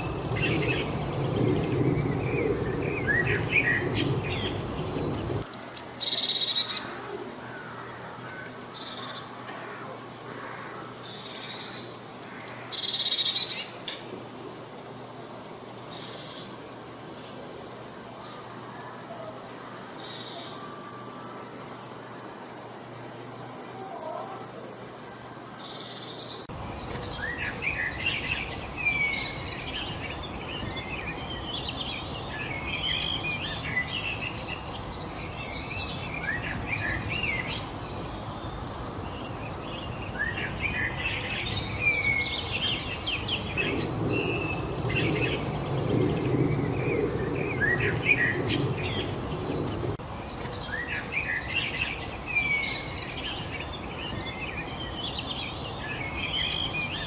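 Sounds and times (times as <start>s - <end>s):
outdoor background hiss: 0.0s - 57.0s
songbirds chirping and singing: 0.0s - 57.0s.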